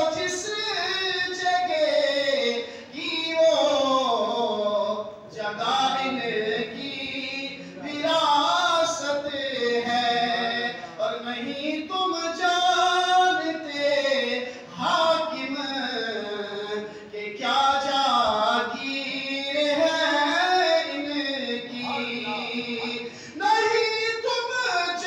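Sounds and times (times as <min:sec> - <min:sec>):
man singing into a microphone: 0:00.0 - 0:25.0.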